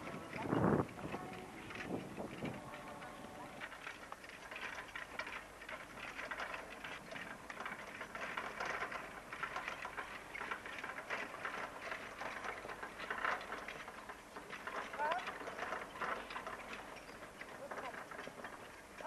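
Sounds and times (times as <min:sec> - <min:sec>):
carriage rattle: 0:00.0 - 0:19.0.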